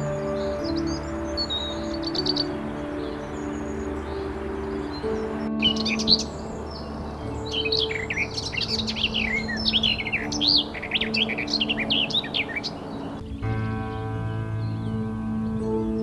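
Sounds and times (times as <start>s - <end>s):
background music drone: 0.0s - 16.0s
warbler singing: 0.0s - 16.0s.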